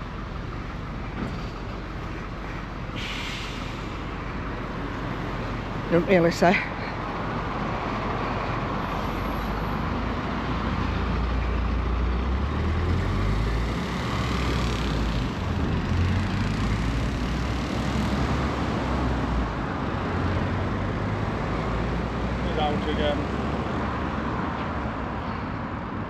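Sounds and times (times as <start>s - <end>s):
road traffic driving past: 0.0s - 26.0s.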